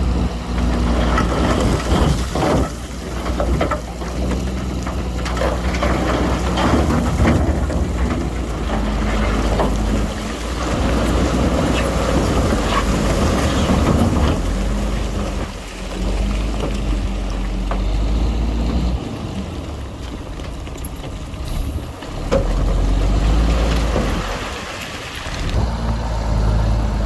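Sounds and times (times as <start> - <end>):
heavy diesel engine working: 0.0 - 27.0.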